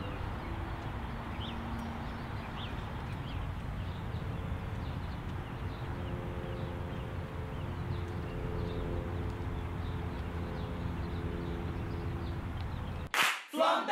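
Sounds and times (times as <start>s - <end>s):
distant traffic: 0.0s - 13.1s
wind rumble: 0.0s - 13.1s.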